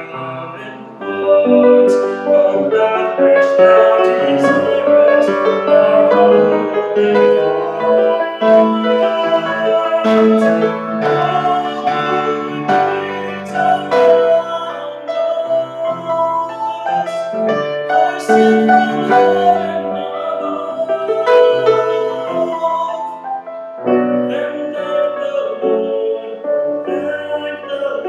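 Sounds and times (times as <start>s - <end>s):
man singing sacred song: 0.0s - 23.2s, 24.2s - 28.0s
piano accompaniment: 0.0s - 28.0s.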